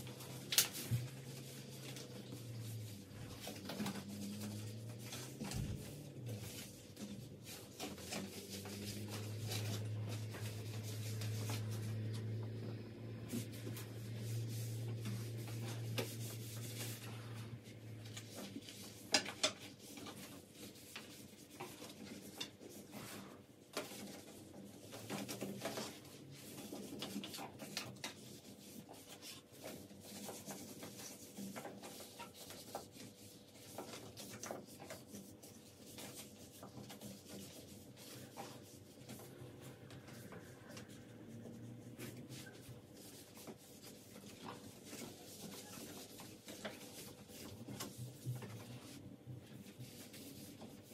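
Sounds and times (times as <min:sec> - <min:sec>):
rubbing and scrubbing: 0:00.0 - 0:50.9.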